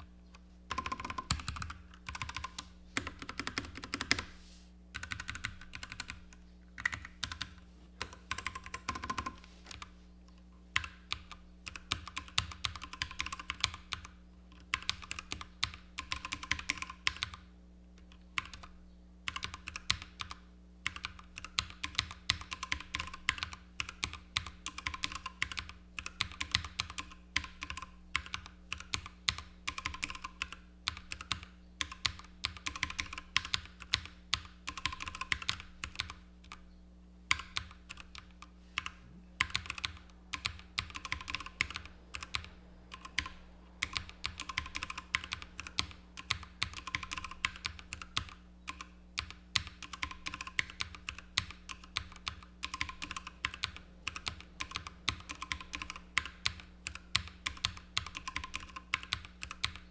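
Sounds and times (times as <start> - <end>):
mechanical keyboard typing: 0.7 - 4.3, 4.9 - 9.9, 10.7 - 17.4, 18.0 - 18.7, 19.3 - 36.6, 37.3 - 59.9.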